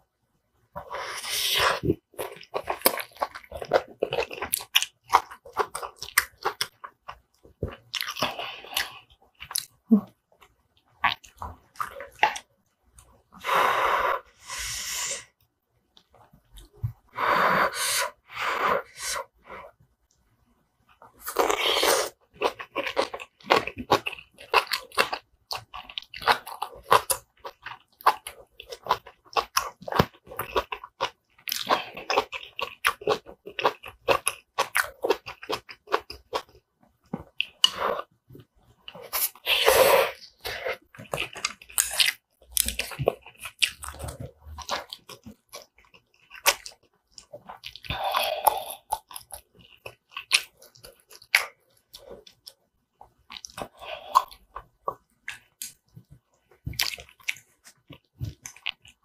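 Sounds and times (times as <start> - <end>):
close chewing and crunching: 0.8 - 13.1, 20.9 - 59.0.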